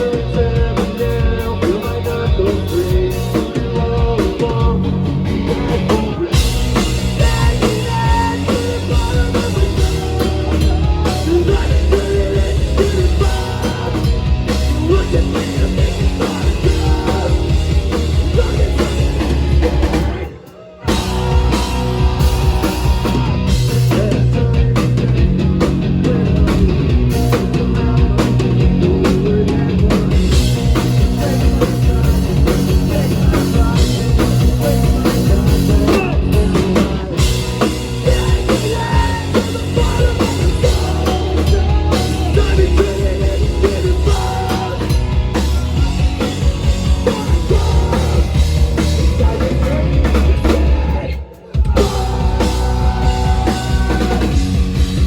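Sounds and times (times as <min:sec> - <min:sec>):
driving drum kit: 0:00.0 - 0:55.0
punk rock band playing: 0:00.0 - 0:55.0.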